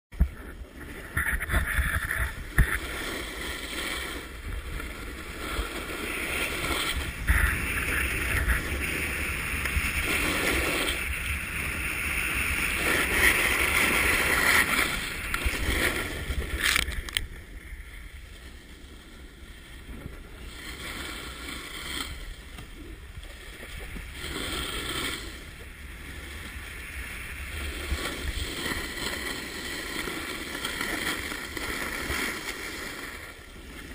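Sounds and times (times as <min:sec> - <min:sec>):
wind buffeting camera: 0:00.1 - 0:33.9
skis sliding on packed snow: 0:00.2 - 0:33.9.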